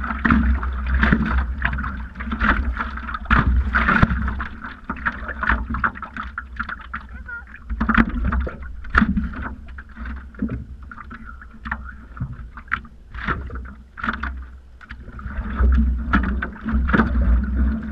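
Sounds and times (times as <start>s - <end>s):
paddle splashing in water: 0.0s - 17.9s.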